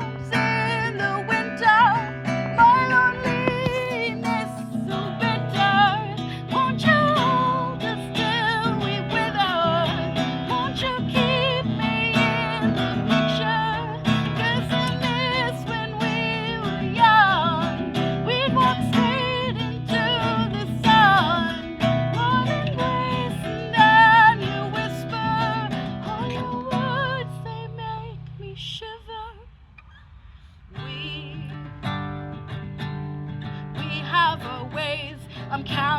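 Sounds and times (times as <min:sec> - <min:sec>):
acoustic guitar accompaniment: 0:00.0 - 0:35.9.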